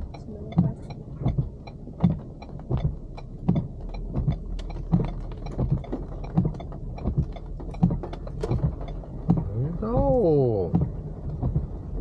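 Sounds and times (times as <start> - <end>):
car moving on wet road: 0.0 - 12.0
turn signal ticking: 0.0 - 12.0.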